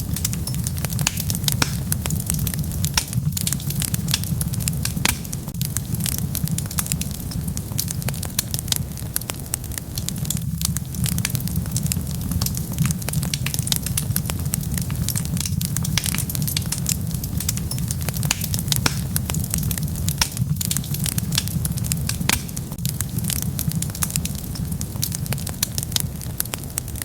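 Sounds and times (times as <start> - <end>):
low rumble of flame: 0.0 - 27.0
wood fire crackling and popping: 0.0 - 27.0.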